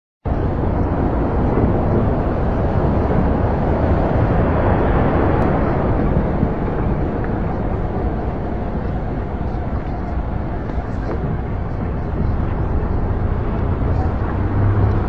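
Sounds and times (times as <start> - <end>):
distant city rumble: 0.2 - 15.0.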